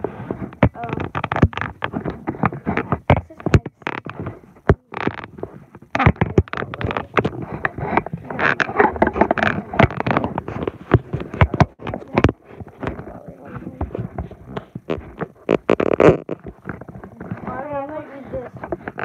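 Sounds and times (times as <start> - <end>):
fingers tapping on microphone: 0.3 - 19.0.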